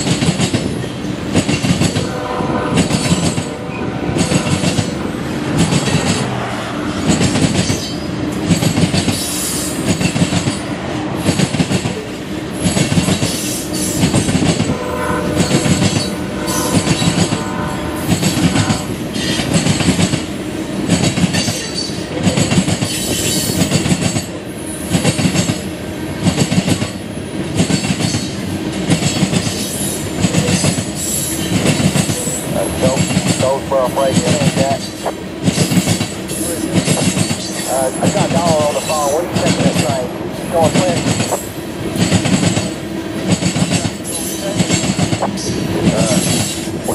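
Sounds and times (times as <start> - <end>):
train wheels clacking over rail joints: 0.0 - 14.8, 18.1 - 46.9.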